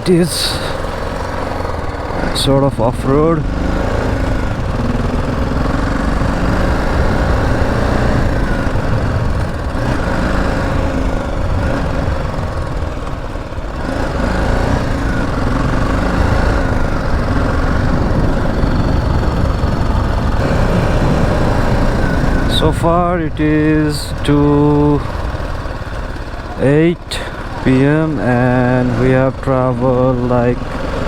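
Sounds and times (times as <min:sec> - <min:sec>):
motorcycle engine rumble: 0:00.0 - 0:31.0.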